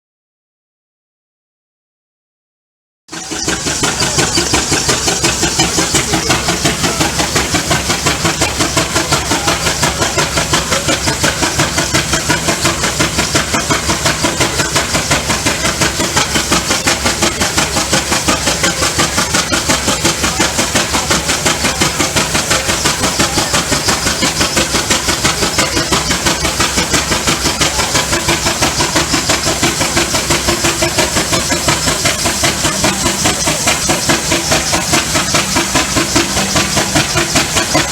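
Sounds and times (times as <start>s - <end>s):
steam engine exhaust chuffs: 3.1s - 37.9s
steam hissing: 3.1s - 37.9s.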